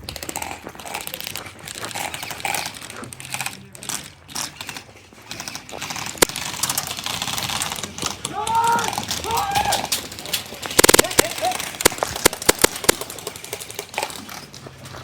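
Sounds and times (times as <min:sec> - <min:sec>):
airsoft guns firing full-auto: 0:00.0 - 0:14.4.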